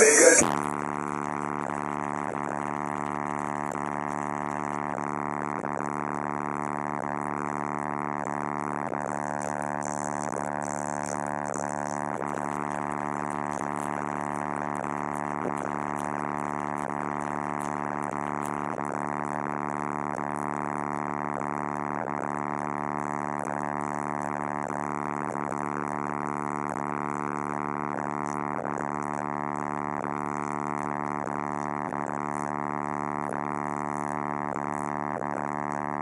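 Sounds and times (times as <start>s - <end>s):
subwoofer bass drone: 0.0s - 36.0s.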